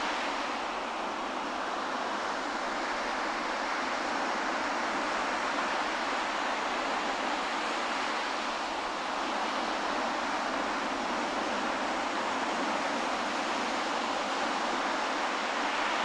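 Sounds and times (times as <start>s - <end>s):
waves washing up a beach: 0.0s - 16.0s.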